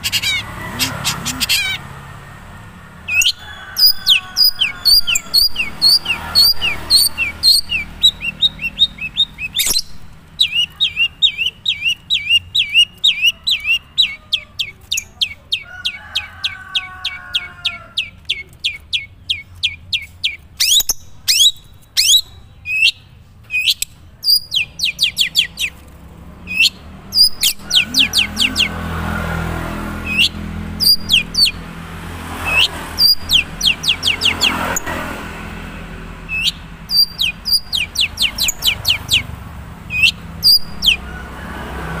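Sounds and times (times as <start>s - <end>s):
bird chirping sharply: 0.0s - 2.0s, 3.1s - 15.6s, 18.0s - 25.8s, 26.5s - 28.8s, 30.0s - 31.6s, 32.4s - 35.0s, 36.2s - 41.1s.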